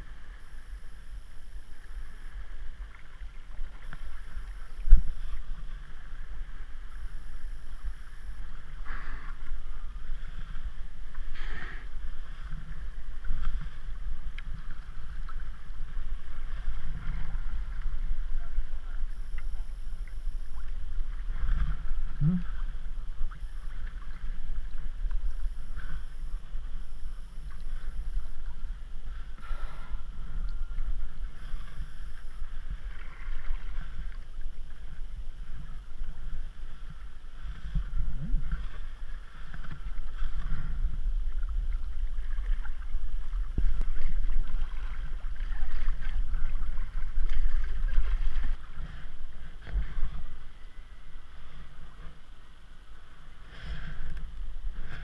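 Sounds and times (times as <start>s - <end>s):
water lapping and splashing: 0.0s - 55.0s.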